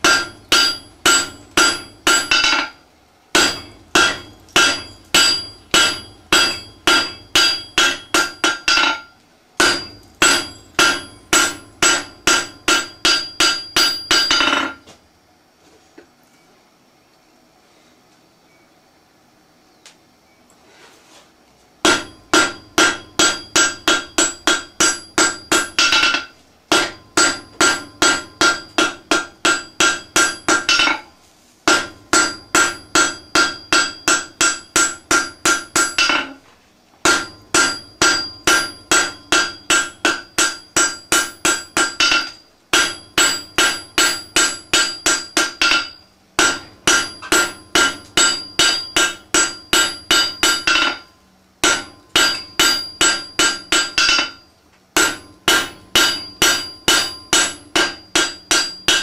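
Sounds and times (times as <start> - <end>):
hammer ringing on anvil: 0.0 - 2.8, 3.4 - 14.9, 21.8 - 31.1, 31.7 - 36.4, 37.0 - 59.0.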